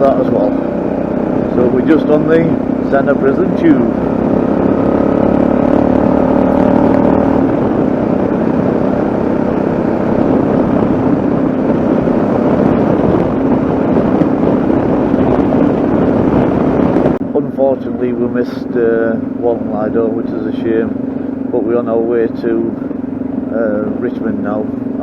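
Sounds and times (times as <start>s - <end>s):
wind noise: 0.0s - 21.6s
motorcycle engine running: 0.0s - 25.0s
road noise: 0.0s - 25.0s.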